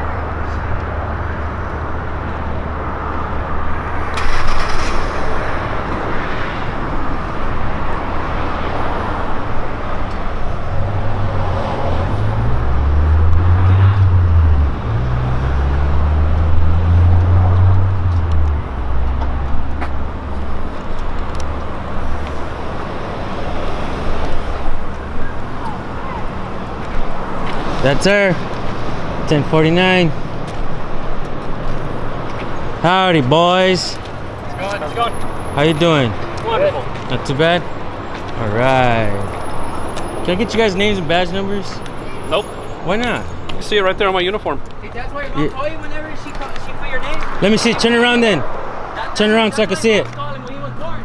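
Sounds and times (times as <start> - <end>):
heavy engine rumbling: 0.0 - 51.0
road traffic: 0.0 - 51.0
vehicle passing loudly: 0.0 - 51.0.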